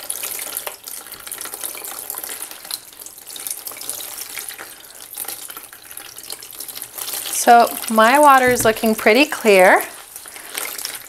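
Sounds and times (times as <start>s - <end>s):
water pouring and splashing: 0.0s - 11.0s.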